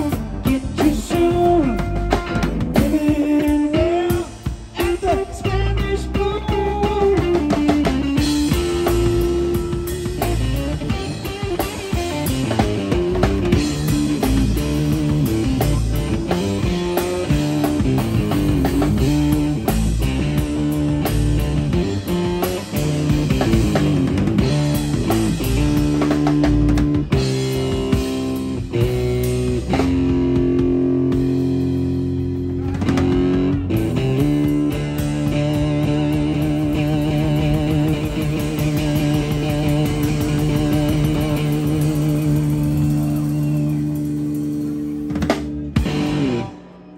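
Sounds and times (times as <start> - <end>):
drum beat: 0.0 - 46.4
bass line: 0.0 - 46.9
electric lead guitar: 0.0 - 46.9.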